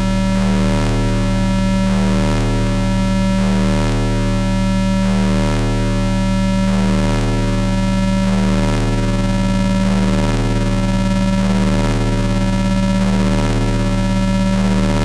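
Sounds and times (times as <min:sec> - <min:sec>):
distorted synthesizer drone: 0:00.0 - 0:15.0.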